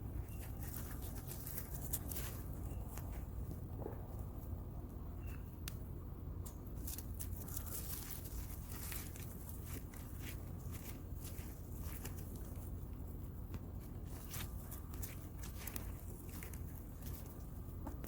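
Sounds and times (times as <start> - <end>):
steady low rumble: 0.0 - 18.0
hands rustling through soil: 0.2 - 3.5, 6.8 - 18.0.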